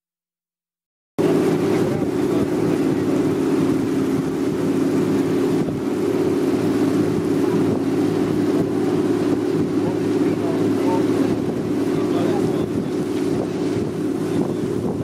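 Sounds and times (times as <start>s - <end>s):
boat engine humming: 1.2s - 15.0s
wind buffeting microphone: 1.2s - 15.0s.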